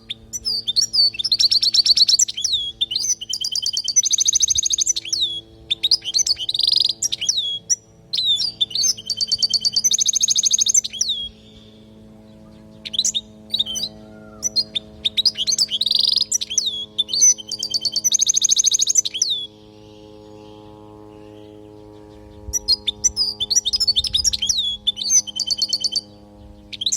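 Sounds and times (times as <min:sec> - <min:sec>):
faint steady hum: 0:00.0 - 0:26.9
goldfinch singing: 0:00.1 - 0:26.9.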